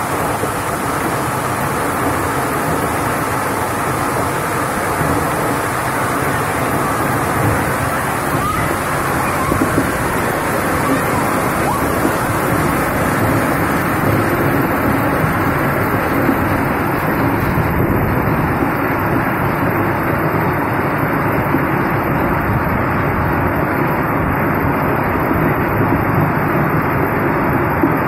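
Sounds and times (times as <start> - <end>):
heavy rain and hail falling: 0.0 - 28.0.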